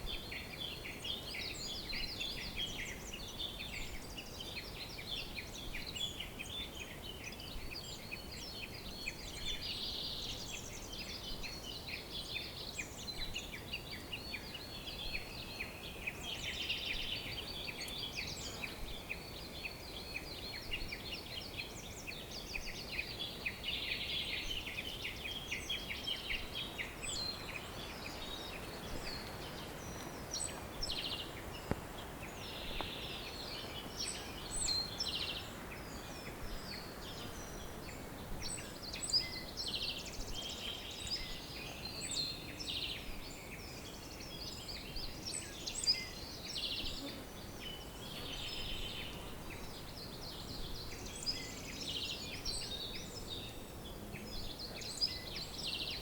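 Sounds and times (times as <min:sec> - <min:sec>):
faint background hiss: 0:00.0 - 0:56.0
songbirds chirping and trilling: 0:00.0 - 0:56.0.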